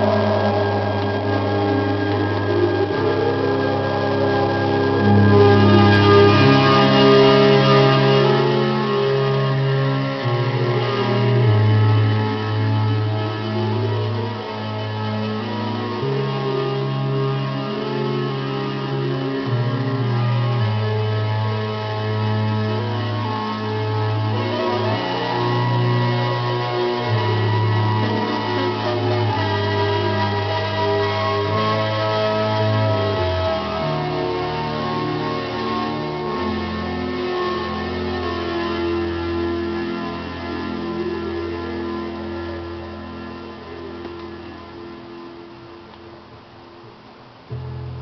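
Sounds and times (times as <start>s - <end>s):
organ chords over bass: 0.0s - 45.9s, 47.5s - 48.0s
music from record player: 0.0s - 48.0s.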